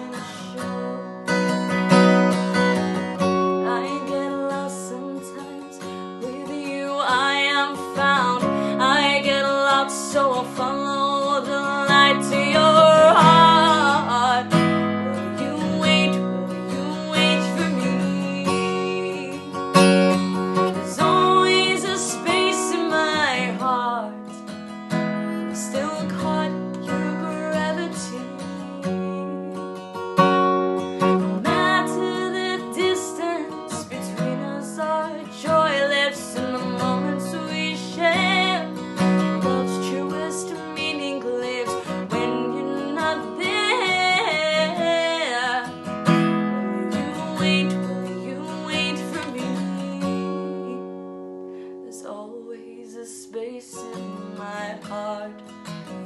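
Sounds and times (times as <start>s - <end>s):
strummed acoustic guitar: 0.0s - 56.0s
woman singing: 0.0s - 56.0s.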